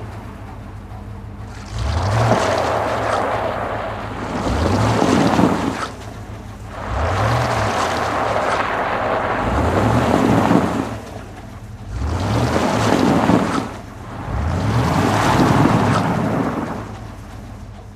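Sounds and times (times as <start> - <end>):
car engine revving: 0.0 - 17.9
tyres spinning and hissing: 0.0 - 17.9.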